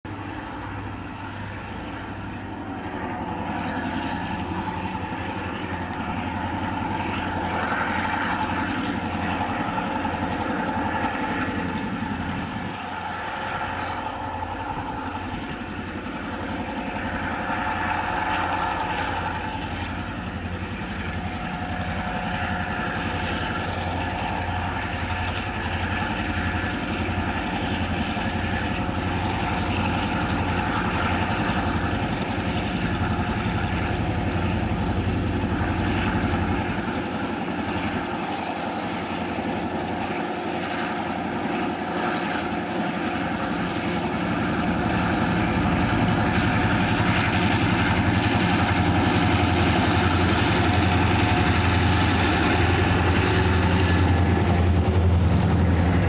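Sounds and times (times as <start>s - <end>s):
diesel locomotive engines droning: 0.1s - 56.0s.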